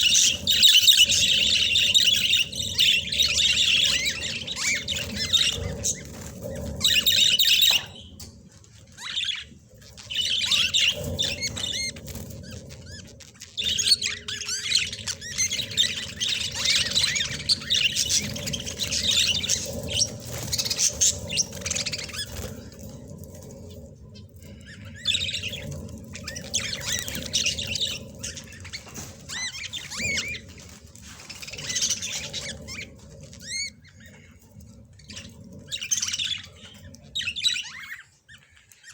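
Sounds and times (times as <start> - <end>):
budgerigars chirping: 0.0 - 23.6, 24.5 - 34.4, 35.0 - 38.9.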